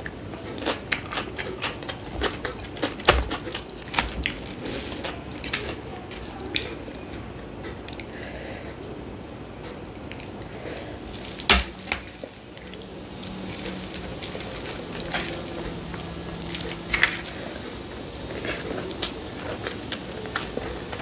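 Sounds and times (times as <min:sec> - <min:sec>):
chewing and mouth smacking: 0:00.0 - 0:08.9, 0:09.6 - 0:21.0.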